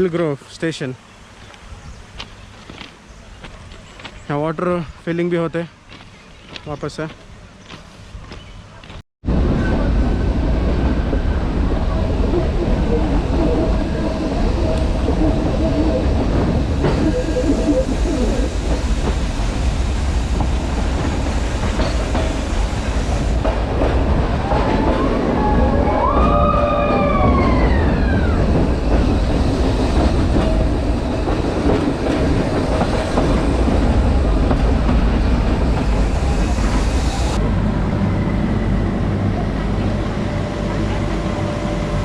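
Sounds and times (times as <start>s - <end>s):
train rumbling and clattering: 1.4s - 42.0s.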